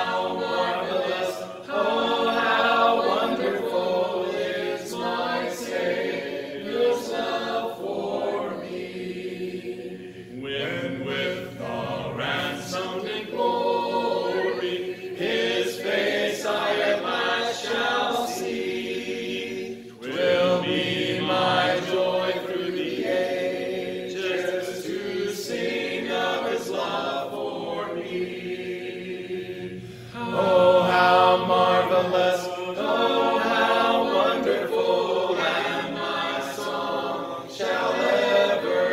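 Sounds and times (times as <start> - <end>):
group singing a hymn a cappella: 0.0 - 38.9.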